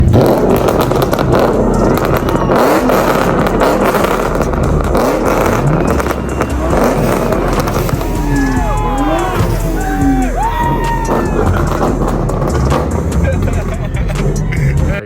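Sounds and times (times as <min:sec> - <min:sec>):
car engine revving loud exhaust: 0:00.0 - 0:15.0.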